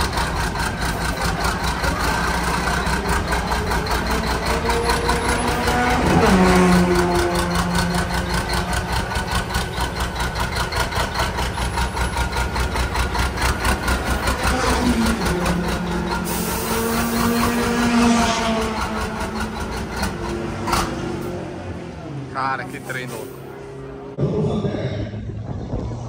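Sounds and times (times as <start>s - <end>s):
diesel truck engine idling: 0.0s - 24.2s.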